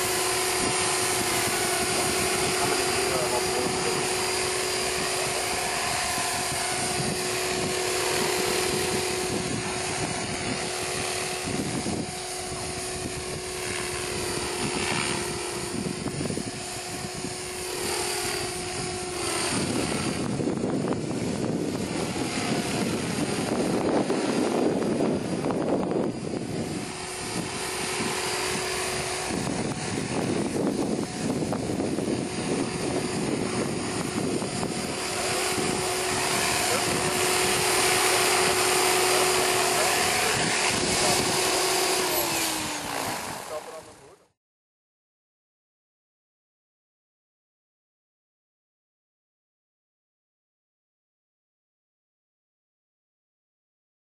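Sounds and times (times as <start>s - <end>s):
model helicopter humming: 0.0s - 44.4s.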